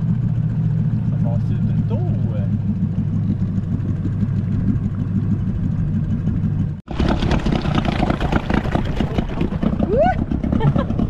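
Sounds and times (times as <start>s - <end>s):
outboard motor running: 0.0s - 11.0s
propeller churning water: 0.0s - 11.0s.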